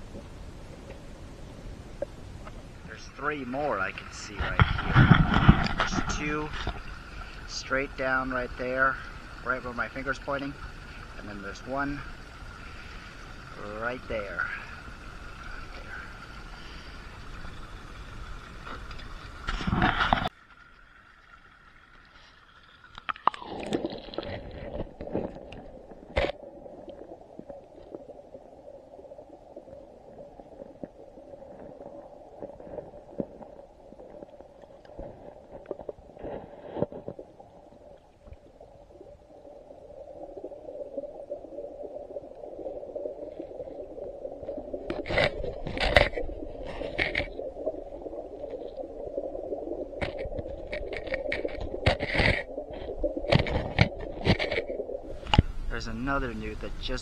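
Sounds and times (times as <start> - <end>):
muffled underwater rumble: 0.0 - 20.3, 23.3 - 57.0
creek water flowing: 0.0 - 57.0.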